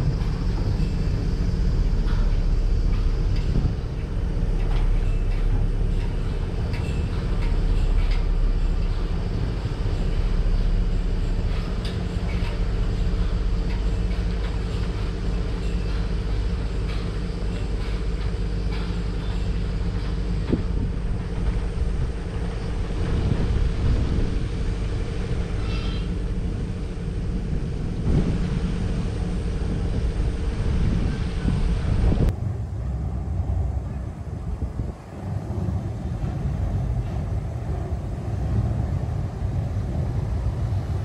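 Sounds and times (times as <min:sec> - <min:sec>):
freight train rumbling: 0:00.0 - 0:41.0
rail clicks: 0:00.0 - 0:41.0.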